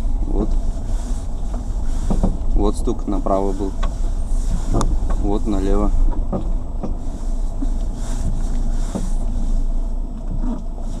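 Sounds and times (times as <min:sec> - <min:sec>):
suspension knocks: 0:00.0 - 0:09.4
road and engine rumble: 0:00.0 - 0:11.0.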